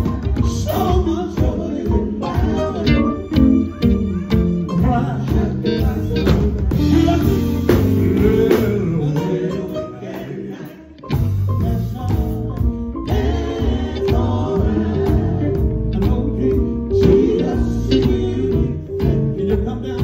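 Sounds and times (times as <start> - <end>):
people singing: 0.0 - 4.0, 4.6 - 20.0
live gospel band playing: 0.0 - 20.0.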